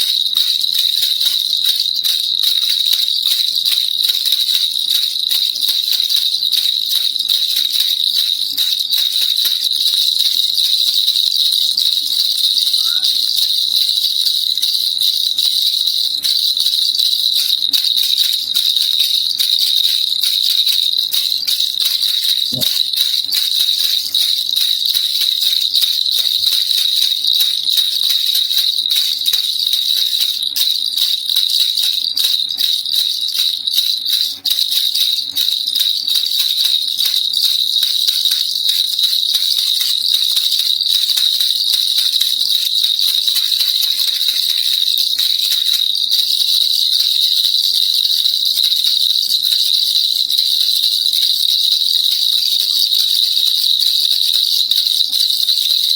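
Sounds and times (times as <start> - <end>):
baby rattle shaken: 0.0 - 55.9.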